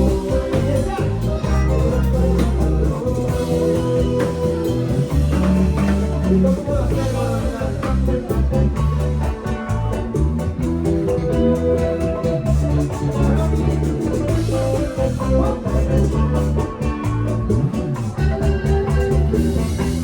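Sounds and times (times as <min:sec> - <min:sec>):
latin dance music: 0:00.0 - 0:20.0.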